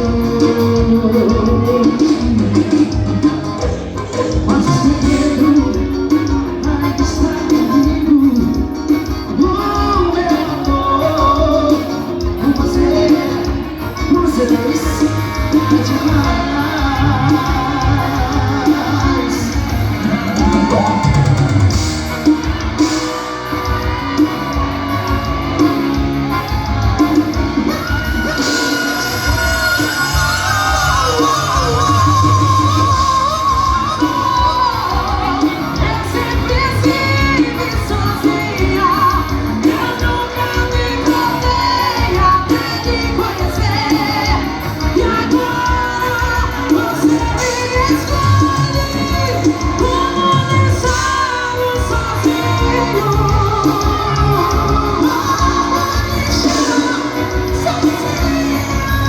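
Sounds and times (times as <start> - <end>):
live band music: 0.0 - 59.0
vocalist singing: 0.0 - 59.0.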